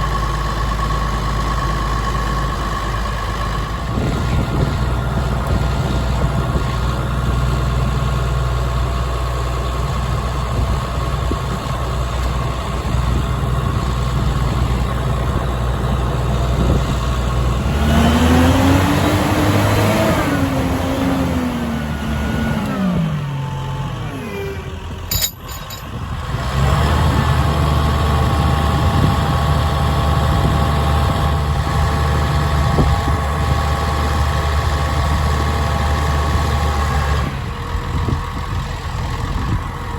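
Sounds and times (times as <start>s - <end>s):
tractor diesel engine idling and revving: 0.0s - 39.9s.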